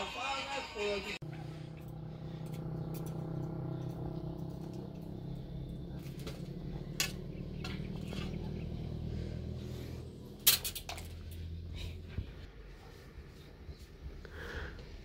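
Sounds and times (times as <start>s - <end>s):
steady low hum: 1.2s - 15.0s.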